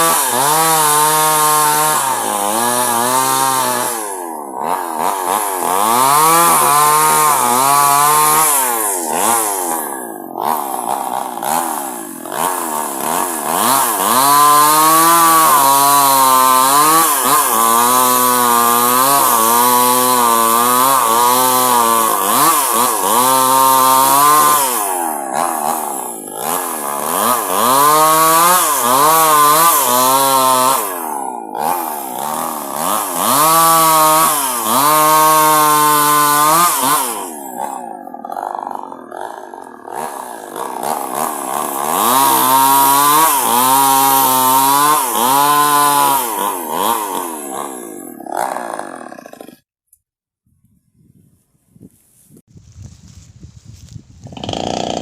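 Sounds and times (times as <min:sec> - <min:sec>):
chainsaw cutting log: 0:00.0 - 0:49.7, 0:54.2 - 0:55.0.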